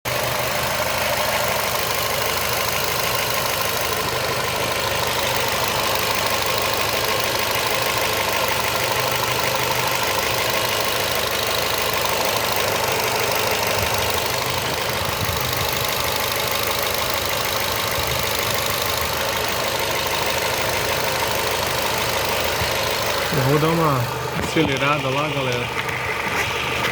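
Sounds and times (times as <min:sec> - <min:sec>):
car engine idling: 0:00.0 - 0:26.9
strange engine noise: 0:00.0 - 0:26.9.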